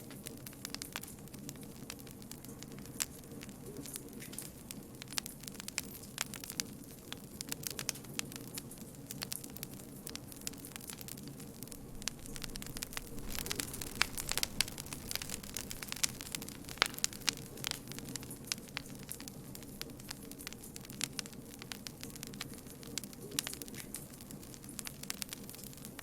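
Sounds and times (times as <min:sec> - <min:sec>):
campfire roaring: 0:00.0 - 0:26.0
wood crackling and popping: 0:00.0 - 0:26.0.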